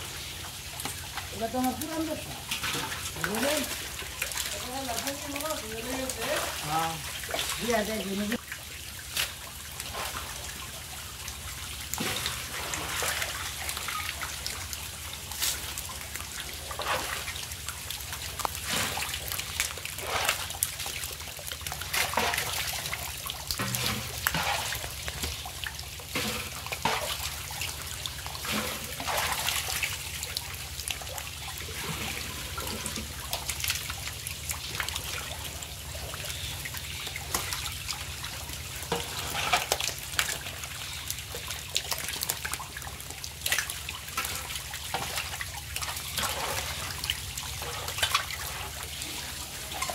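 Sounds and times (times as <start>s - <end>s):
fish splashing in water: 0.0s - 49.9s
trickle of water: 0.0s - 49.9s.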